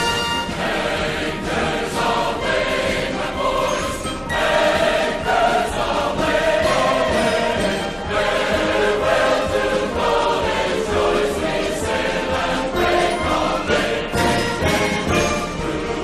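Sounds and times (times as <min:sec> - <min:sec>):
choir singing: 0:00.0 - 0:16.0
instrumental accompaniment: 0:00.0 - 0:16.0.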